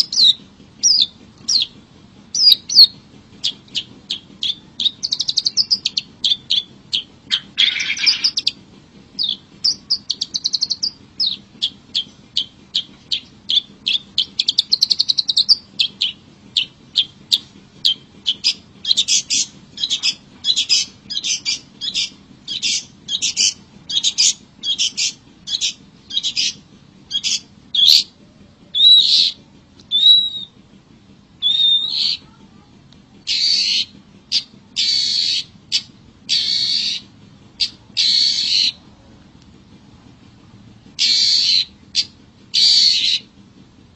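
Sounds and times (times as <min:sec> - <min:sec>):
shrike chattering calls: 0:00.0 - 0:08.6, 0:09.2 - 0:28.1, 0:31.4 - 0:32.4, 0:33.2 - 0:38.8, 0:41.0 - 0:43.3.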